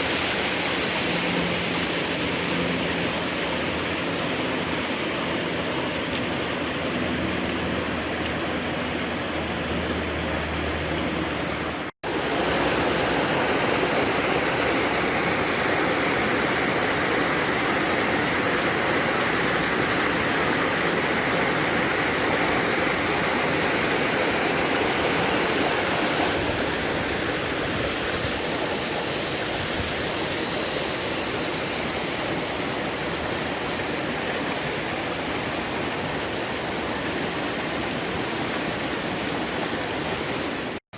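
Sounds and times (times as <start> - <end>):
waterfall rushing: 0.0 - 40.8.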